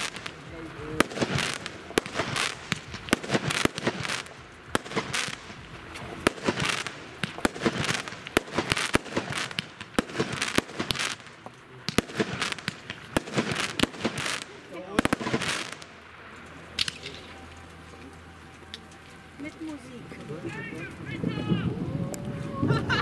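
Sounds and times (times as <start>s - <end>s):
fireworks bangs: 0.0s - 23.0s
fireworks hissing: 0.0s - 23.0s.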